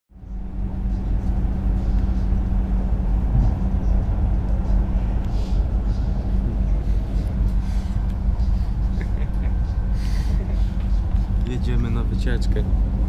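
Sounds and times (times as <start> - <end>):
constant low hum: 0.1 - 13.0
train wheels rumbling on track: 0.4 - 13.0.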